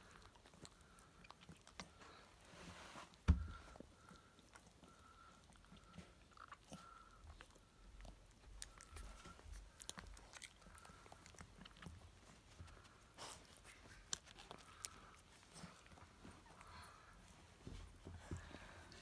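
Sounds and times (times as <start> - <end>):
puppies suckling wet clicking: 0.0 - 2.5, 3.7 - 19.0.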